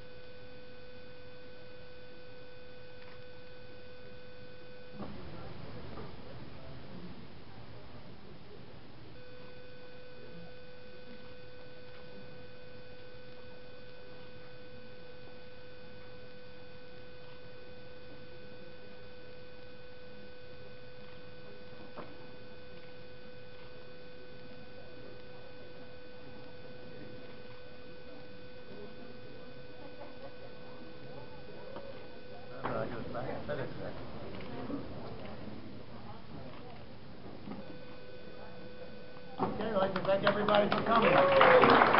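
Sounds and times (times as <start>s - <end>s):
faint room noise: 0.0s - 41.9s
steady humming tone: 0.0s - 41.9s.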